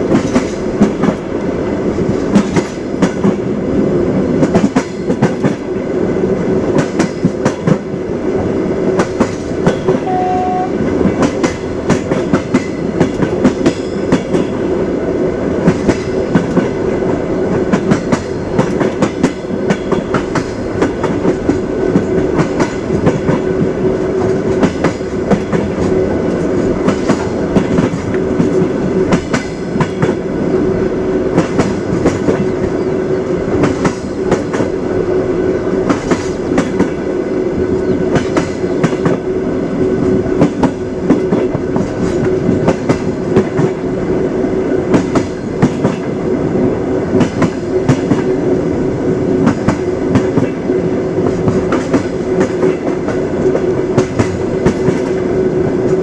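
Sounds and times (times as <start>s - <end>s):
train wheels clattering: 0.0s - 3.6s, 4.4s - 5.8s, 9.0s - 14.7s, 15.6s - 30.3s, 31.3s - 34.8s, 35.8s - 37.1s, 37.7s - 39.3s, 40.0s - 44.1s, 44.8s - 46.2s, 47.1s - 48.5s, 49.4s - 56.0s.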